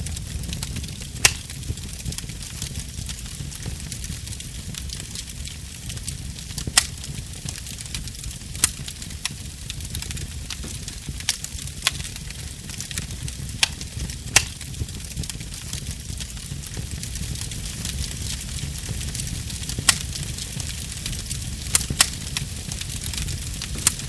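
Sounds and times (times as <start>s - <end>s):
crackling pops: 0.0s - 2.8s, 6.6s - 24.0s
fire rumble and hiss: 0.0s - 24.0s.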